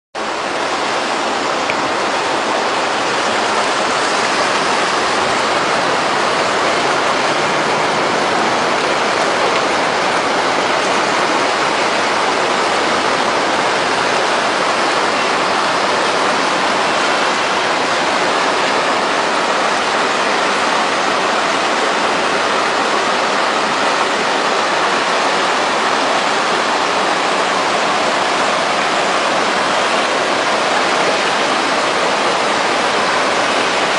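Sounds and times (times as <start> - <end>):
driven rain: 0.2 - 33.9
surf roar: 0.2 - 33.9
wind: 0.2 - 33.9.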